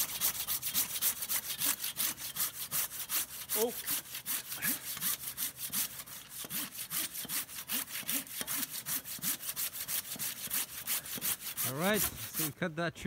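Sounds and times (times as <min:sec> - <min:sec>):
hand saw cutting tree trunk: 0:00.0 - 0:12.7.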